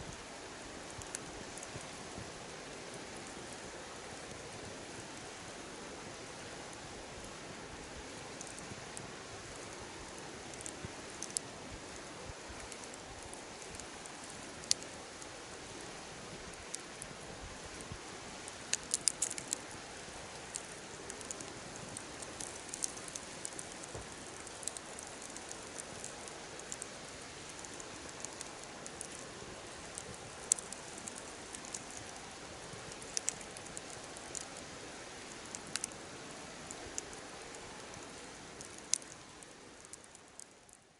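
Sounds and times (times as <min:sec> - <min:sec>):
campfire crackling and popping: 0:00.0 - 0:40.8.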